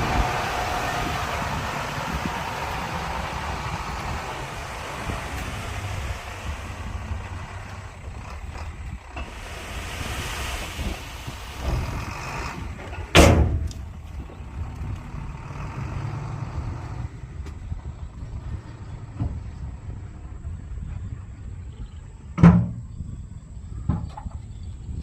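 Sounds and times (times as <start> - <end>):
diesel machinery rumbling: 0.0 - 25.0.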